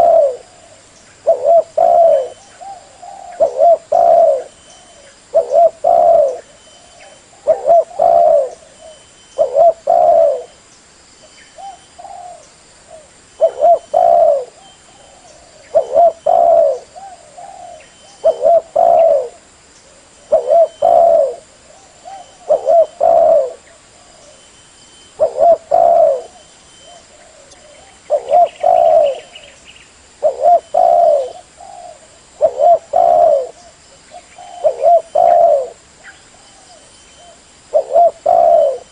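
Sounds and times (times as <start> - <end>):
dove cooing: 0.0 - 10.6, 11.6 - 24.4, 25.1 - 29.6, 30.2 - 38.9.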